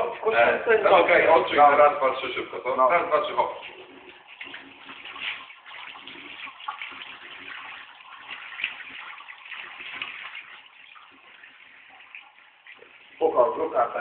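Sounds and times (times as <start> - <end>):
shower water splashing: 0.9 - 14.0.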